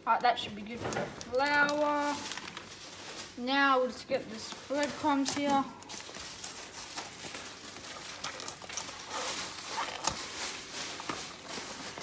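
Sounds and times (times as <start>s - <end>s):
packaging crinkling and rustling: 0.2s - 12.0s.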